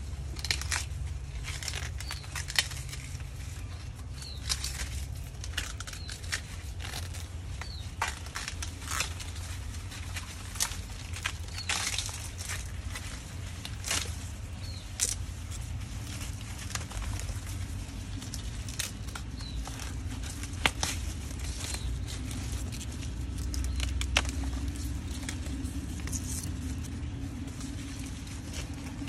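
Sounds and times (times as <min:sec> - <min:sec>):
cane stalks rustling and crackling: 0:00.0 - 0:29.0
low rumble: 0:00.0 - 0:29.0.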